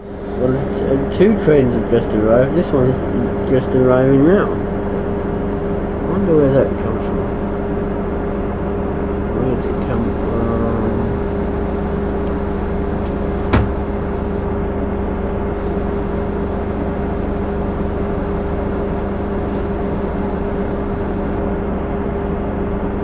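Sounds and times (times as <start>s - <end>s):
electric hum of trains: 0.0s - 23.0s.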